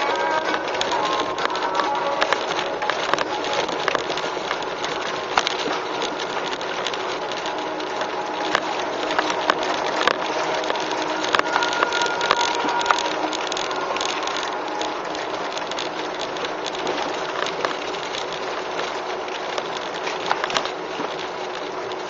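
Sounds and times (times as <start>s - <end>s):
car tyres rolling over snow: 0.0s - 22.0s.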